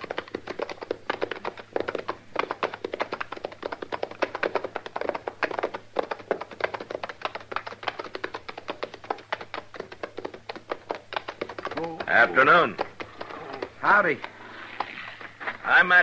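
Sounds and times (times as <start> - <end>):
horse hoofbeats clopping: 0.0 - 16.0.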